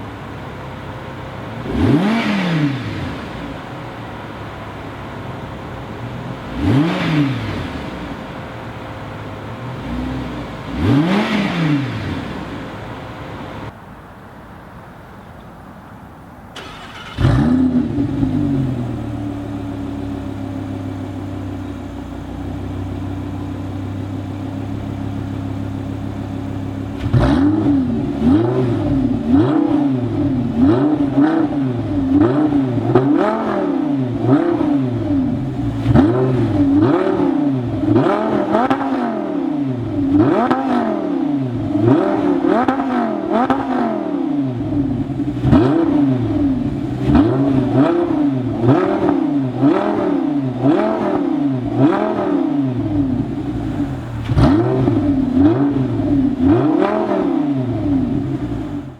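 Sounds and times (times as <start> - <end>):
car engine revving: 0.9 - 13.8, 16.6 - 58.9.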